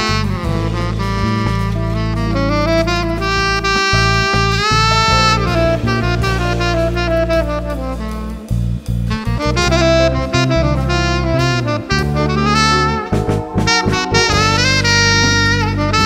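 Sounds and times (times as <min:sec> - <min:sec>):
congas: 0:00.0 - 0:16.0
drum kit: 0:00.0 - 0:16.0
electric bass: 0:00.0 - 0:16.0
tenor saxophone melody: 0:00.0 - 0:16.0.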